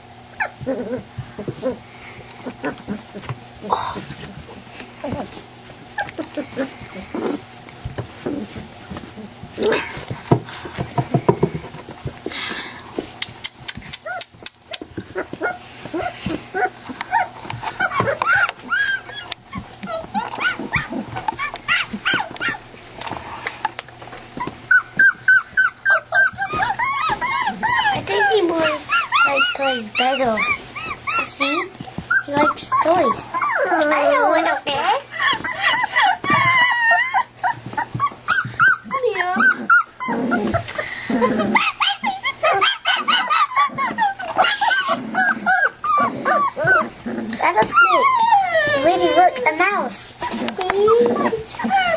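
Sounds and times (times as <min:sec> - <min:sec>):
puppies yelping: 0:00.3 - 0:11.7, 0:12.3 - 0:51.9
puppies whimpering and yipping: 0:00.4 - 0:51.9.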